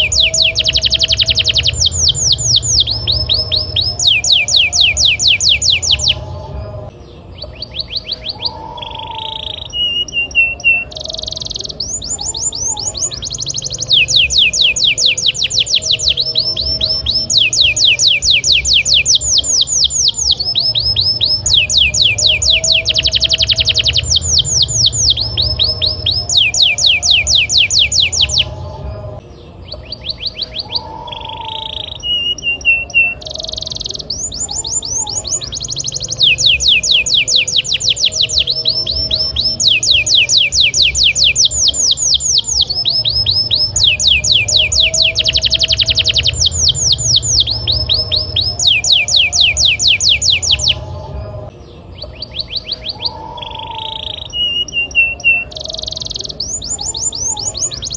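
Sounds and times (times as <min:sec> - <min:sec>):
canary trilling: 0:00.0 - 0:57.9.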